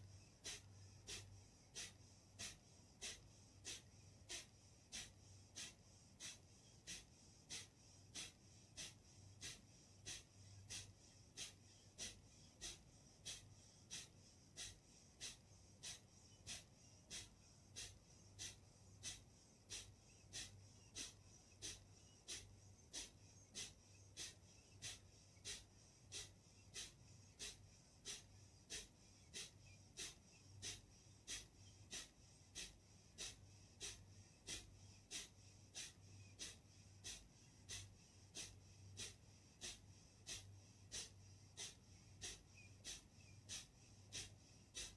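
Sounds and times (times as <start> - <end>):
rapid nasal exhalations: 0.4 - 44.9.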